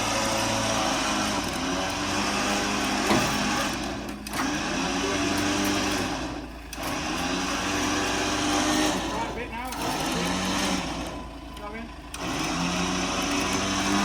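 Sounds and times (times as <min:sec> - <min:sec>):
vehicle engine revving high: 0:00.0 - 0:14.0.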